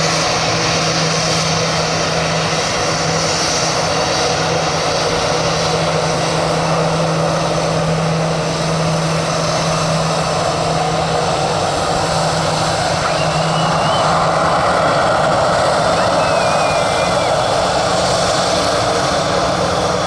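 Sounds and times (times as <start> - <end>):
jet engines at taxi power: 0.0 - 20.0.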